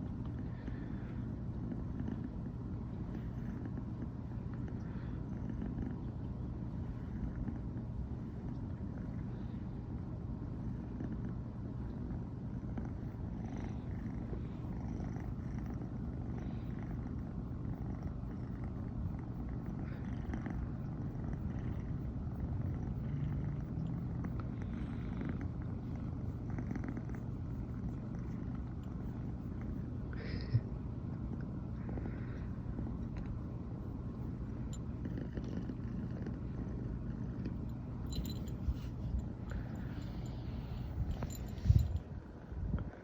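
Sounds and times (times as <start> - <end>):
cat purring: 0.0 - 42.5.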